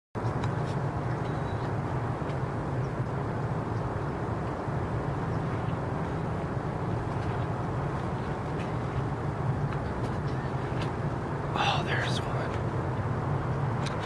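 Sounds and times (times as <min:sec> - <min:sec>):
low outdoor rumble: 0:00.2 - 0:14.0.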